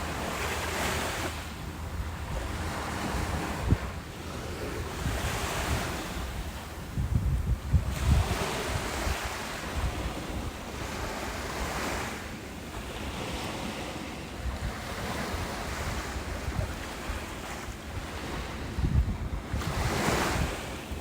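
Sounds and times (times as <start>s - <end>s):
wind buffeting microphone: 0.0s - 12.2s, 12.8s - 21.0s
ocean surf washing onto beach: 0.0s - 21.0s.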